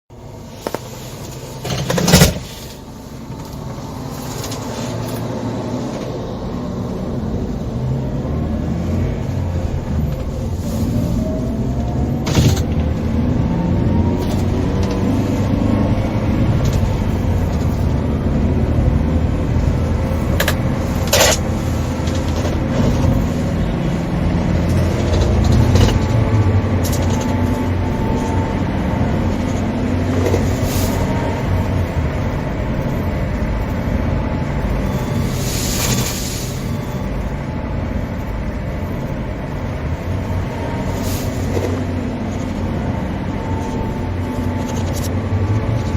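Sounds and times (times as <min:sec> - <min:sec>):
vehicle engine and road rumble: 0:00.1 - 0:45.9.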